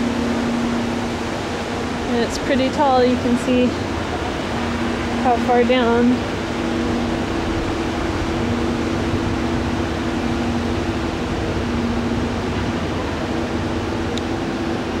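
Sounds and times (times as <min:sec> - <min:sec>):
low steady tones: 0:00.0 - 0:15.0
machine hum and hiss: 0:00.0 - 0:15.0.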